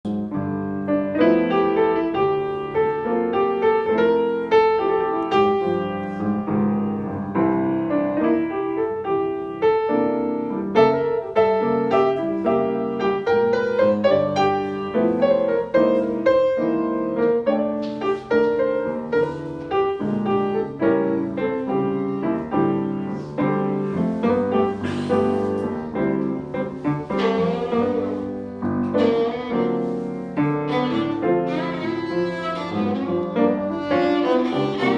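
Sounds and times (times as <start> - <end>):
piano playing blues: 0.0 - 34.9.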